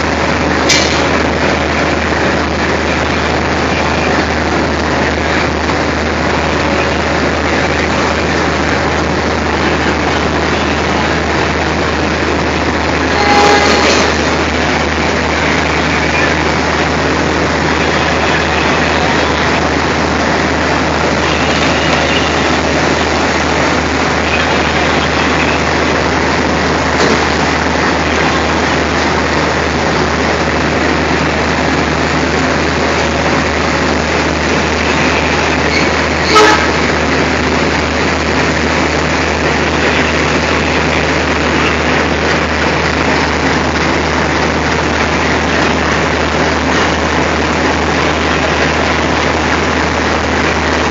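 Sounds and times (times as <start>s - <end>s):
diesel locomotive engine humming: 0.0s - 50.9s.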